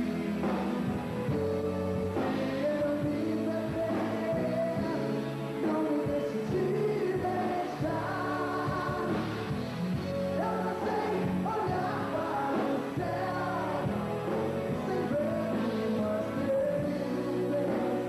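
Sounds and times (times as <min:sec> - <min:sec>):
lead voice singing: 0:00.0 - 0:18.0
live pop-rock band: 0:00.0 - 0:18.0.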